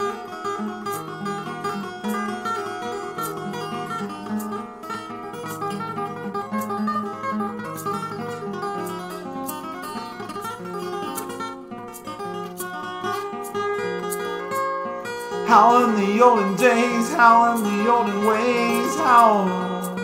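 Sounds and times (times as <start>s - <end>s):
acoustic guitar: 0.0s - 20.0s.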